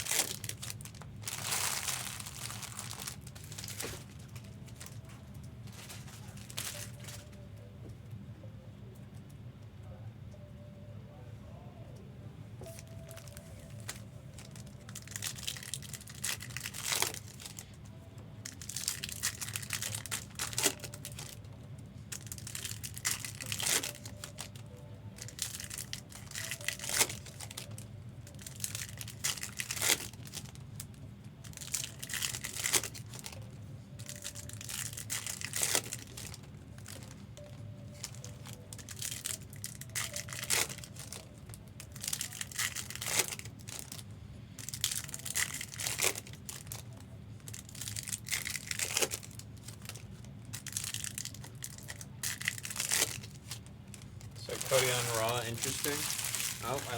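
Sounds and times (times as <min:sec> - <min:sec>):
plastic and foil wrappers crinkling: 0:00.0 - 0:07.6, 0:12.6 - 0:56.9.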